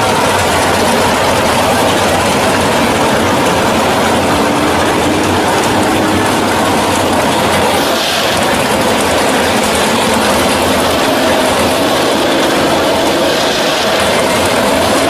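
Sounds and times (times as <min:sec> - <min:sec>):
loud car engine idling: 0:00.0 - 0:15.0.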